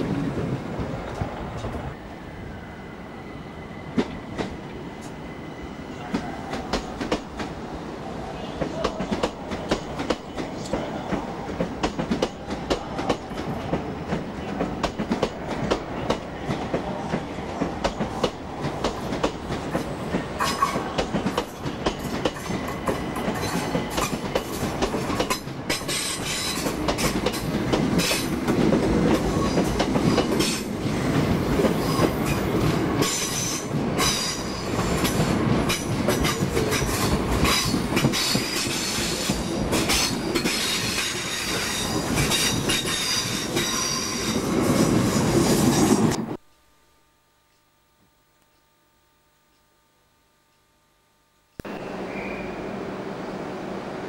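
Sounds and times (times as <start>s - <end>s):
passenger train arriving: 0.0s - 46.4s, 51.6s - 54.0s.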